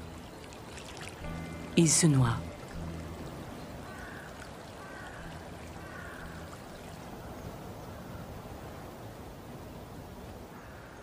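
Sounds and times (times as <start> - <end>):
river flowing over gravel: 0.0 - 10.8.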